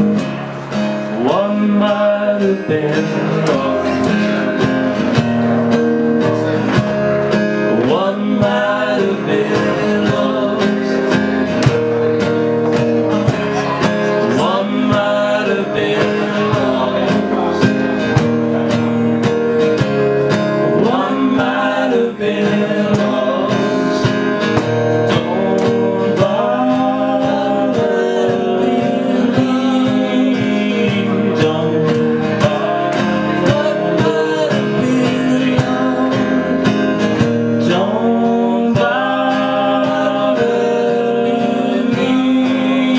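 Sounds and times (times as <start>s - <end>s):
acoustic guitar strumming: 0.0s - 42.9s
men singing together: 1.0s - 5.2s, 7.6s - 11.5s, 13.1s - 19.0s, 20.6s - 42.9s.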